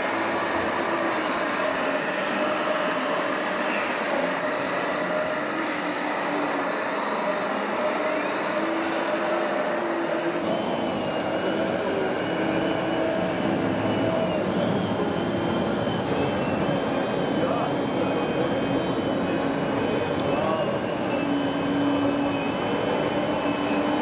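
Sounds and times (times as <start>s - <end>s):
hall noise: 0.0s - 24.0s
small electric motors whining: 0.0s - 24.0s.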